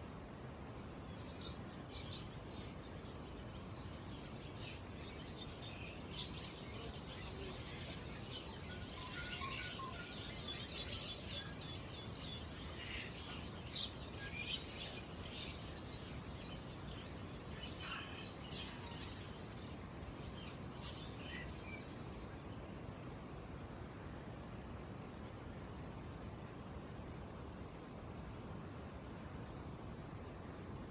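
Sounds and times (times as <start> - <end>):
high-pitched hiss: 0.0 - 30.9
songbirds chirping and trilling: 0.0 - 30.9.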